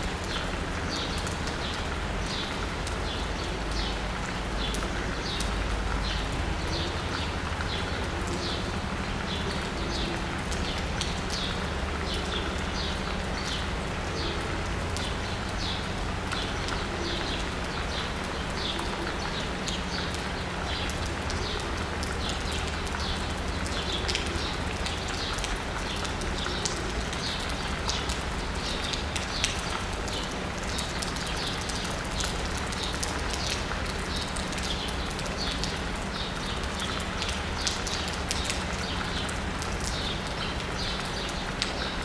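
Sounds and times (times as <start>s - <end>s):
rain on asphalt and rooftops: 0.0s - 42.0s.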